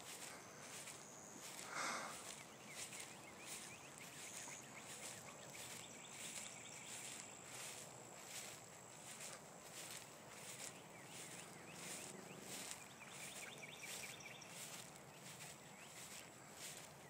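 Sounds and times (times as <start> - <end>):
footsteps swishing through grass: 0.0 - 17.0.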